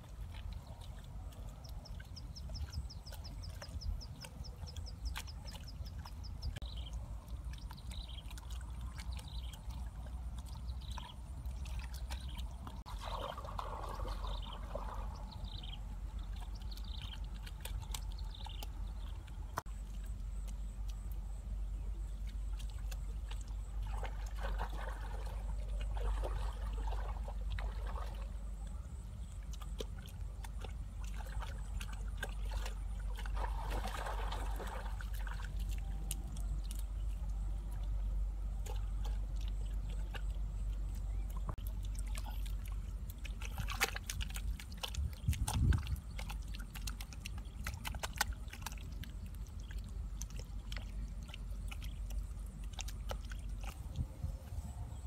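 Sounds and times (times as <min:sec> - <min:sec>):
hands squelching wet mud: 0:00.0 - 0:55.0.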